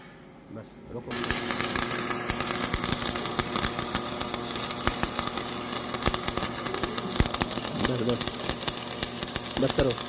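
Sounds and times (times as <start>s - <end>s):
arc welding crackling hiss: 1.1s - 10.0s.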